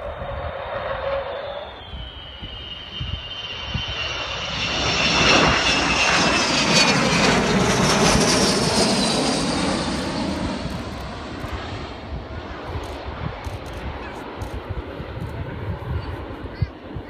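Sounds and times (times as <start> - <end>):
jet aircraft rumble: 0.0 - 17.0
jet engine high whine: 0.0 - 17.0.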